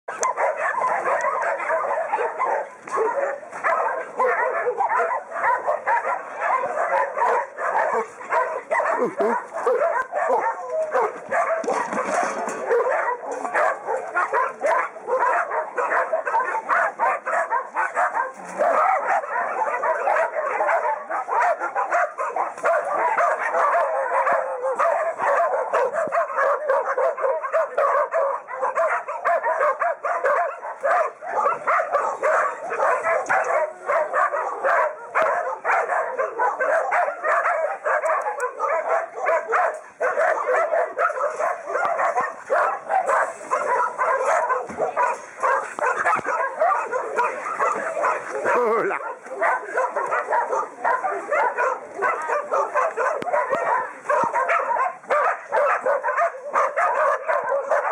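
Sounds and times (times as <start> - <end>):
many dogs barking: 0.0 - 57.9.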